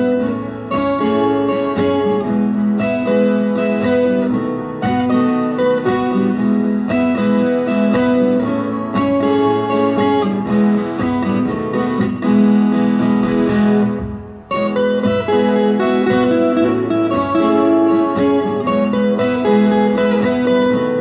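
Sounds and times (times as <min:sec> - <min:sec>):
fingerstyle acoustic guitar: 0:00.0 - 0:21.0
looped guitar through speakers: 0:00.0 - 0:21.0.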